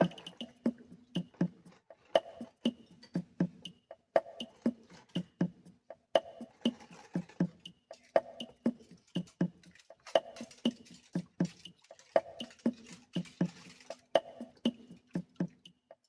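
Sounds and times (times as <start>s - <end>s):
drum beat: 0.0s - 16.0s.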